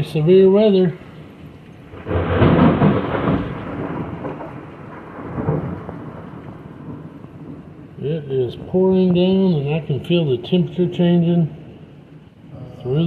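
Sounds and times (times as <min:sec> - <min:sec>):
heavy rain pouring: 0:00.0 - 0:13.0
thunder rumbling: 0:00.0 - 0:13.0.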